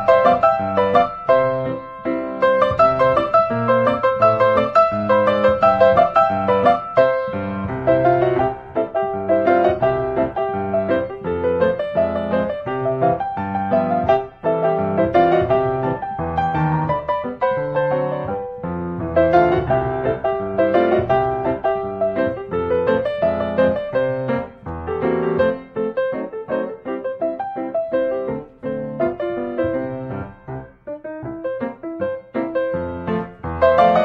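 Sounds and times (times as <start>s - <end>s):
quick light piano notes: 0.0s - 34.0s.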